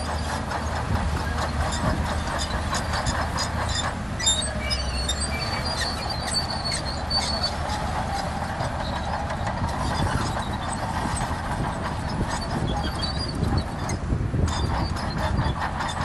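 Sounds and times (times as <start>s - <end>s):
diesel engine running: 0.0s - 16.0s
steel tracks clattering: 0.0s - 16.0s
track links squealing: 0.0s - 16.0s.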